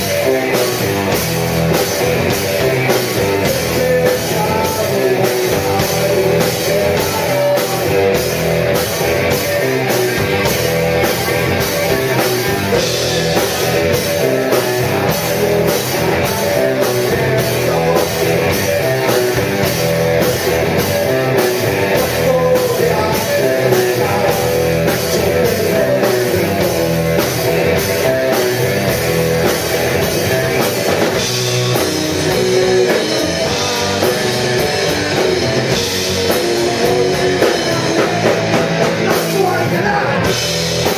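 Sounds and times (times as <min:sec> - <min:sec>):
drum kit beat: 0:00.0 - 0:40.9
electric guitars: 0:00.0 - 0:40.9.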